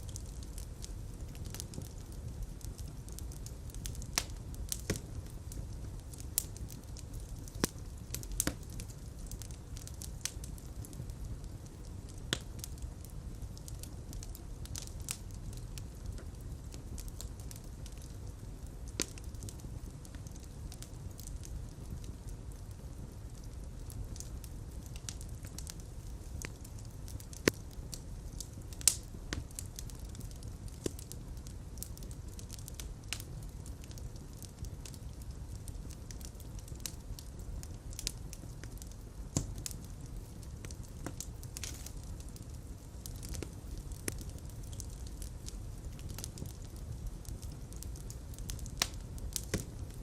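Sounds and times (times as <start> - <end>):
sharp fire pops: 0.0 - 18.3, 18.9 - 50.0
fire crackling: 0.0 - 50.0
low rumble of flames: 0.0 - 50.0.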